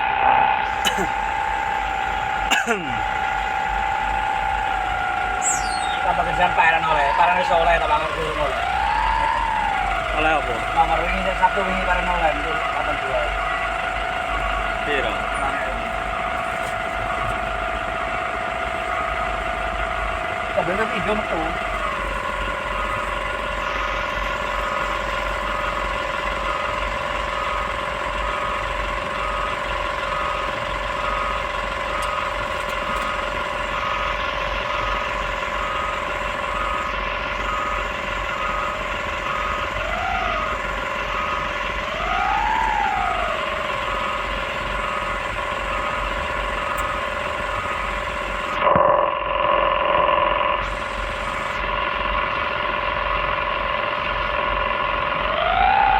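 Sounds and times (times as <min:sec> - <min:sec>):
excavator engine and hydraulics: 0:00.0 - 0:55.9
hydraulic whine: 0:00.0 - 0:55.9.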